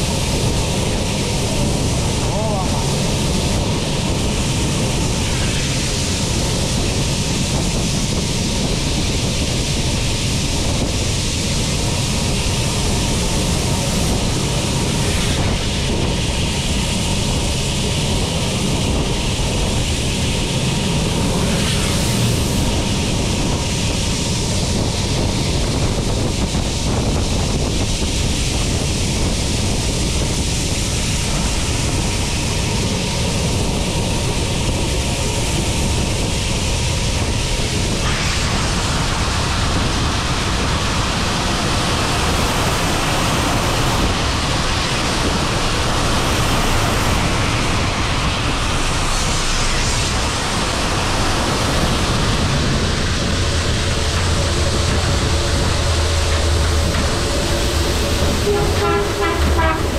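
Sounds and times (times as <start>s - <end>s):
train rumbling on rails: 0.0s - 59.9s
wind rushing over microphone: 0.0s - 59.9s.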